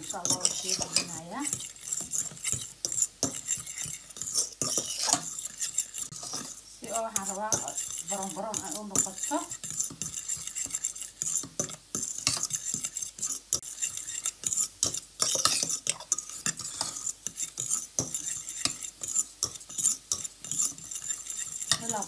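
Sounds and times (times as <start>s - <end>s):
metal spoon scraping pot: 0.0s - 22.0s.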